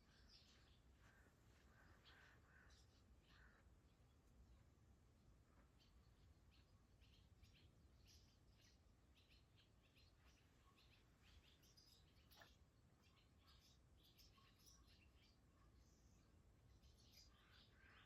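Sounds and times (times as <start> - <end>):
swallows chirping: 0.0 - 4.6, 5.5 - 18.0.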